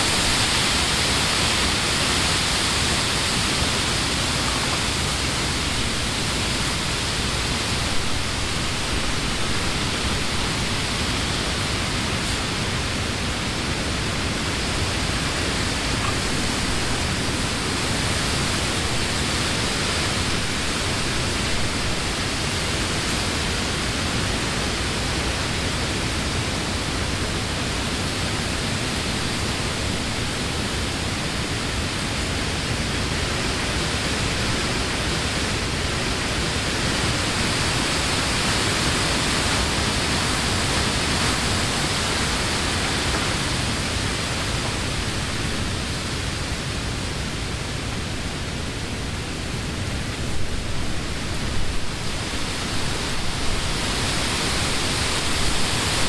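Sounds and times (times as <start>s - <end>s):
wind gusts: 0.0s - 56.0s
wind rushing through leaves: 0.0s - 56.0s.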